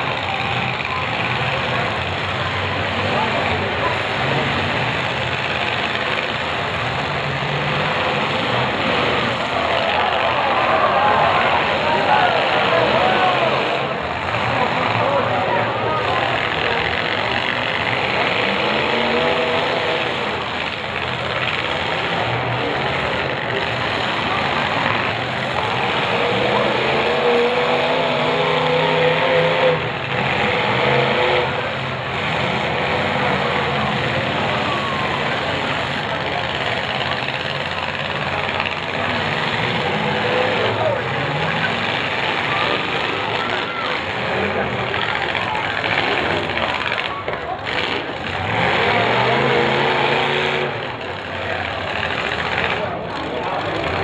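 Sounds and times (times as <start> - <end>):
several car engines running: 0.0 - 54.0.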